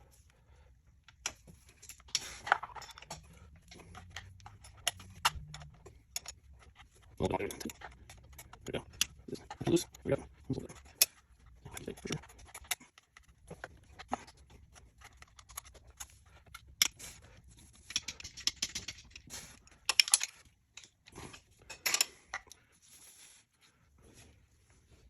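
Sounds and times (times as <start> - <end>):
wrench metallic clicks and scrapes: 1.1 - 22.6.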